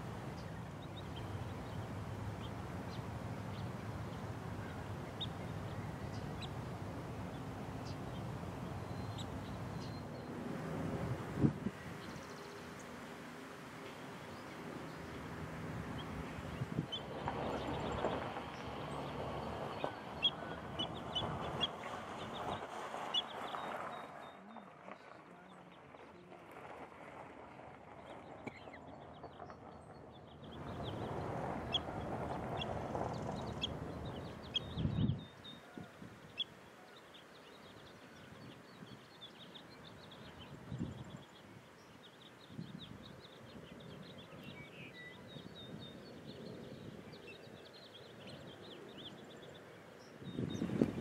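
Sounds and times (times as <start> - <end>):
birds chirping: 0.0 - 26.8, 27.9 - 51.0.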